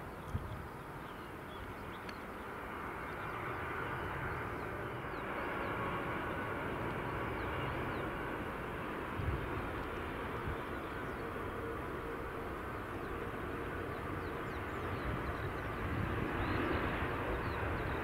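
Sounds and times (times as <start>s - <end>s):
jet engine rumble and hiss: 0.0s - 18.0s.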